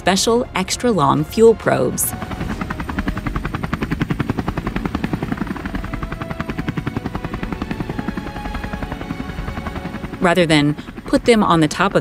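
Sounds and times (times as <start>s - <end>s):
helicopter rotor blades chopping: 0.0s - 12.0s.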